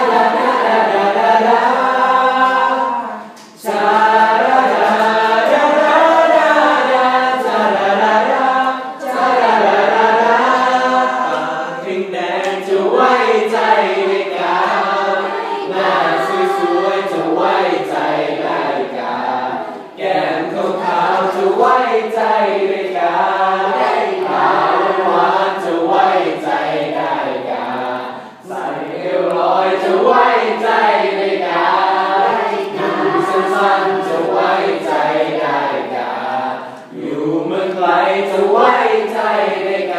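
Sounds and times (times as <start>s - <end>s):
girls choir singing in parts: 0.0s - 39.9s.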